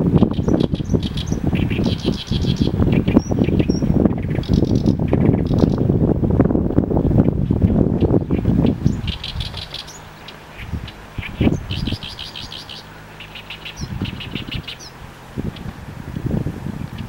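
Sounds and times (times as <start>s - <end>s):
small birds chirping: 0.0s - 6.0s, 6.7s - 15.8s, 16.7s - 17.0s
wind buffeting microphone: 0.0s - 17.0s.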